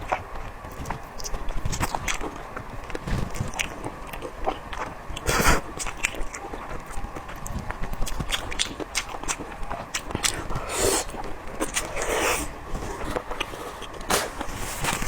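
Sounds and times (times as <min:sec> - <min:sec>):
chewing with wet crunches: 0:00.0 - 0:14.0.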